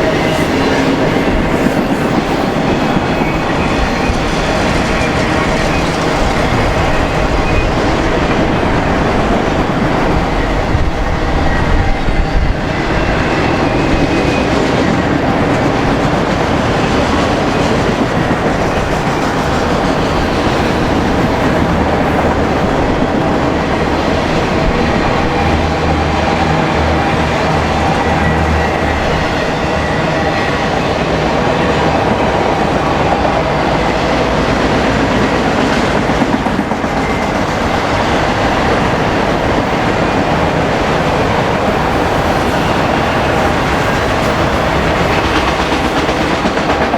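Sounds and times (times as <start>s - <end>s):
freight train wheels on rails: 0.0s - 46.9s.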